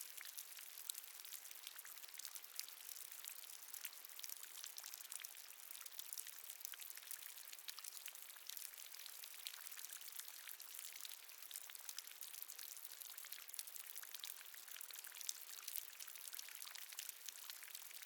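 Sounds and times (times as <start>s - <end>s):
water dripping and trickling: 0.0s - 18.0s.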